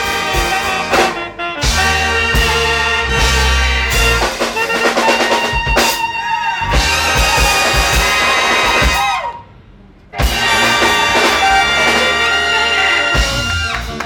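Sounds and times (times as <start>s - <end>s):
big band playing: 0.0s - 9.5s, 10.1s - 14.0s.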